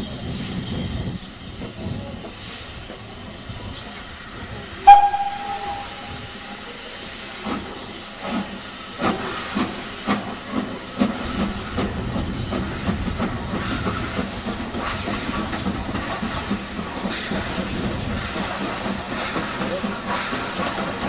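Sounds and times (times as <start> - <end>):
steady hiss of steam: 0.0 - 21.0
steam locomotive exhaust chuffs: 0.1 - 21.0.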